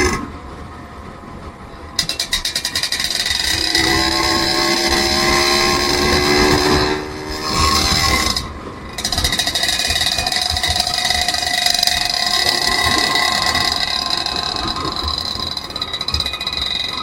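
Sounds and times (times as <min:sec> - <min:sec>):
vehicle engine running: 0:00.0 - 0:17.0
high whining tones: 0:01.6 - 0:17.0.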